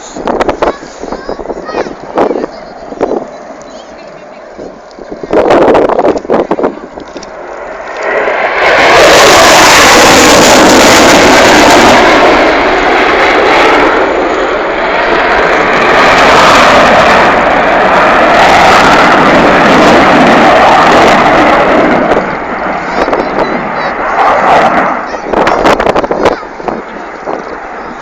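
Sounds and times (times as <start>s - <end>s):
jet flying past: 0.0s - 28.0s.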